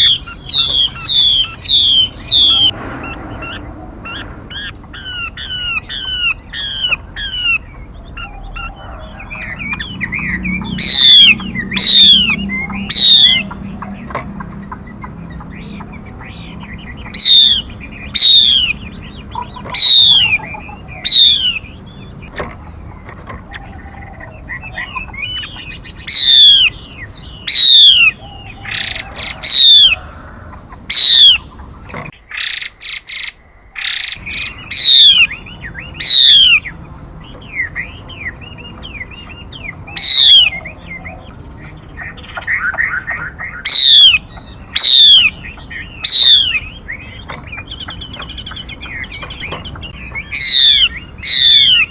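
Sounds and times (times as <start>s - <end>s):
songbird whistled calls: 0.0s - 14.1s, 14.8s - 22.3s, 23.5s - 30.2s, 30.9s - 31.5s, 32.4s - 51.9s
songbird soft chattering: 0.0s - 32.0s, 33.8s - 51.9s.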